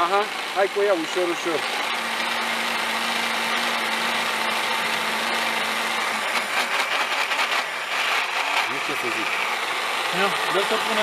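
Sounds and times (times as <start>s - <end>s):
immersion blender running: 0.0s - 11.0s.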